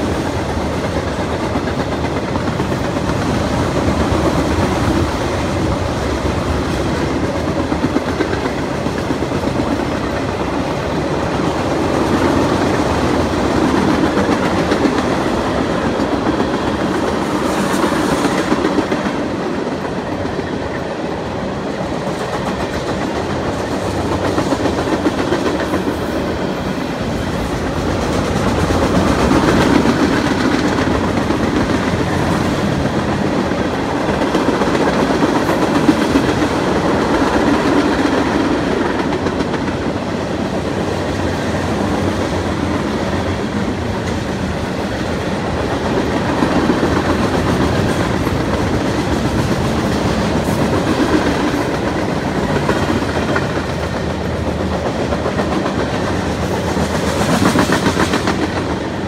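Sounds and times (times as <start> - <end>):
train rumble: 0.0 - 59.0
train wheels clicking over rail joints: 0.0 - 59.0.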